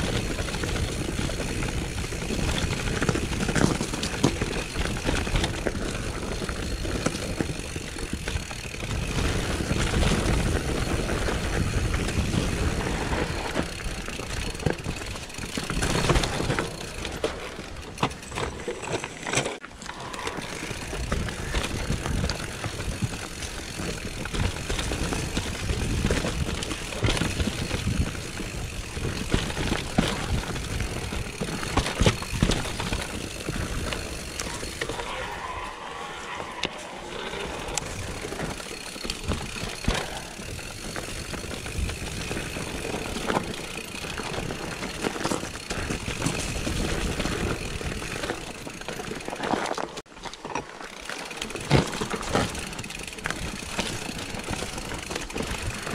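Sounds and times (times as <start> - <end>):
bike rattling over bumps: 0.0 - 55.9
bike tyres over dirt and stones: 0.0 - 55.9.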